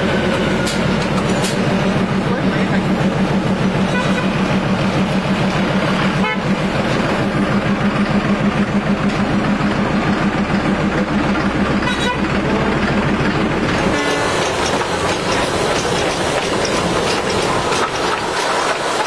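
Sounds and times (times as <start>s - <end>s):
diesel locomotive engine throbbing: 0.0s - 19.0s.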